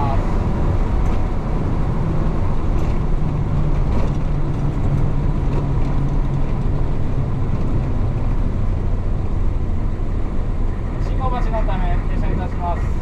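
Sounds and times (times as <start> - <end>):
bus diesel engine droning: 0.0 - 13.0
road noise: 0.0 - 13.0.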